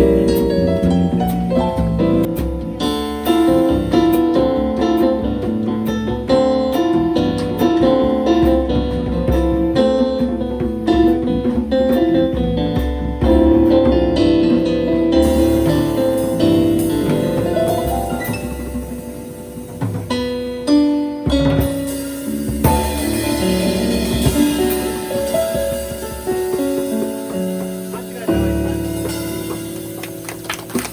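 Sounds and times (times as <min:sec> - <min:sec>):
live band instrumental music: 0:00.0 - 0:30.9
steady bass line: 0:00.0 - 0:30.9.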